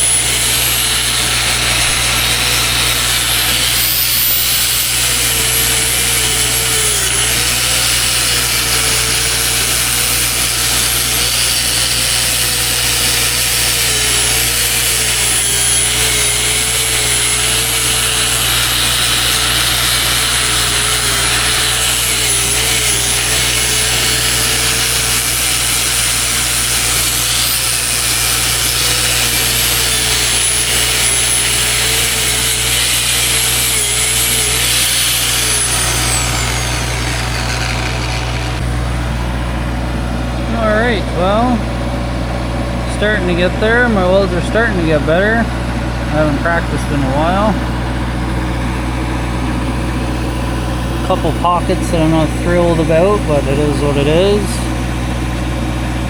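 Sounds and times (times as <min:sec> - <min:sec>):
arc welding: 0:00.0 - 0:39.9, 0:45.4 - 0:56.0
wavering hum: 0:00.0 - 0:56.0.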